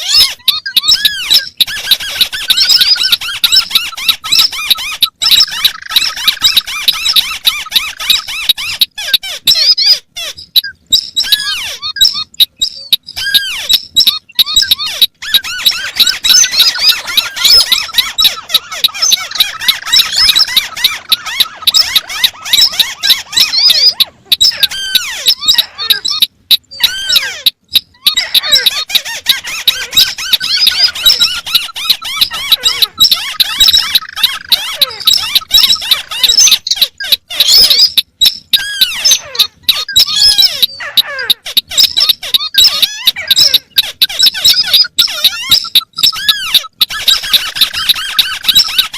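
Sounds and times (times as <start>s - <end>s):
birds chattering squeaky calls: 0.0s - 48.9s.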